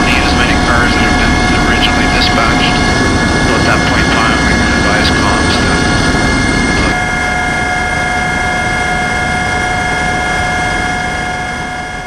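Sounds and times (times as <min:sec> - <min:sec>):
helicopter engine and rotor noise: 0:00.0 - 0:12.0
high turbine whine: 0:00.0 - 0:12.0.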